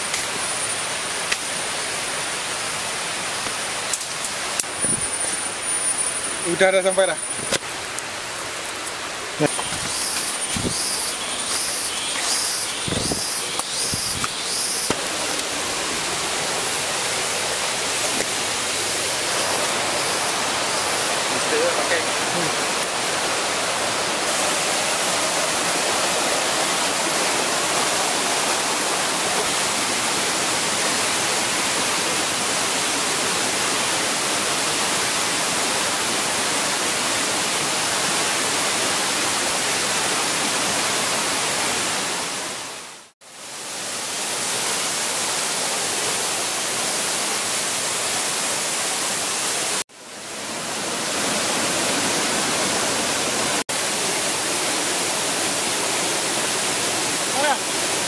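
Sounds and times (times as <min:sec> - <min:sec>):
water cascading over rocks: 0:00.0 - 0:58.0.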